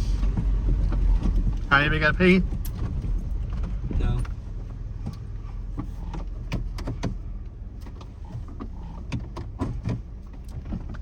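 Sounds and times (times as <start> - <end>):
engine low rumble: 0.0 - 11.0
body knocks and rattles: 0.3 - 11.0.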